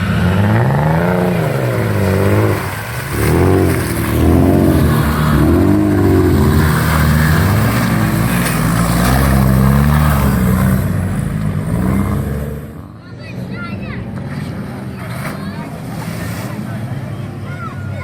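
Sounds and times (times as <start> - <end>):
engine revving: 0.0 - 17.4.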